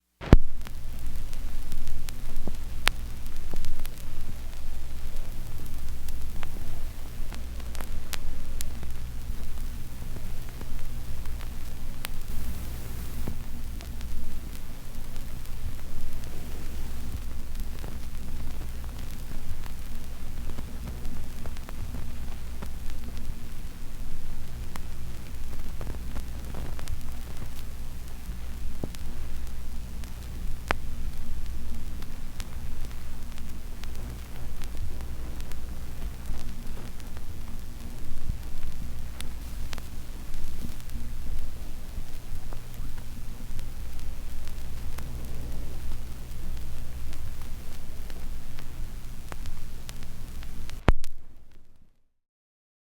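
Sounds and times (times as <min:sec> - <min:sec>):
sharp record pops: 0:00.0 - 0:51.9
vinyl crackle and hiss: 0:00.0 - 0:52.1
low steady hum: 0:00.1 - 0:52.0.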